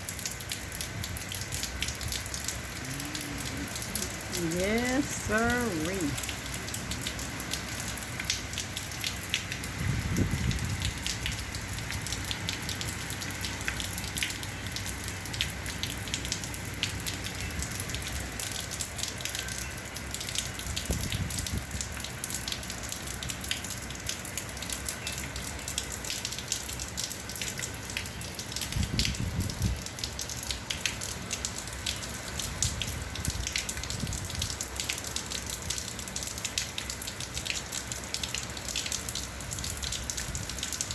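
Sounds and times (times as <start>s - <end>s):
heavy rain in wind: 0.0s - 40.9s.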